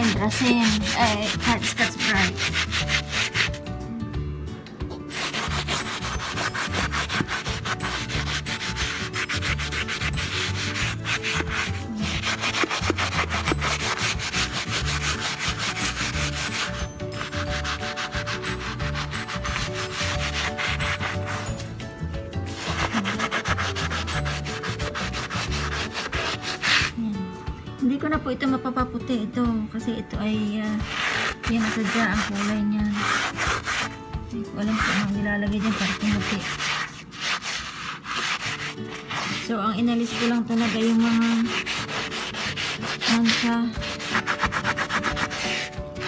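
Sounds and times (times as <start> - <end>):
scrubbing ceramic floor tiles: 0.0 - 3.6, 5.0 - 21.7, 22.5 - 27.0, 30.8 - 34.0, 34.7 - 45.8.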